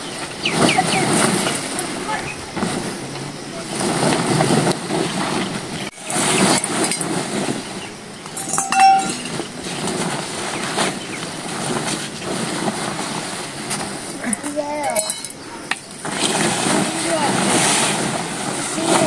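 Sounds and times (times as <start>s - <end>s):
plastic tarpaulin rustling: 0.0s - 19.0s.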